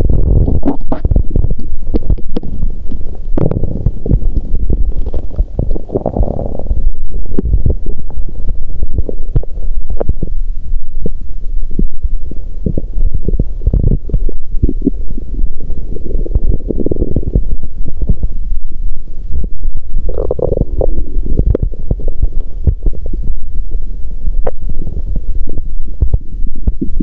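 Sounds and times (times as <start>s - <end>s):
stomach gurgling: 0.0s - 27.0s
stomach rumble: 0.0s - 27.0s.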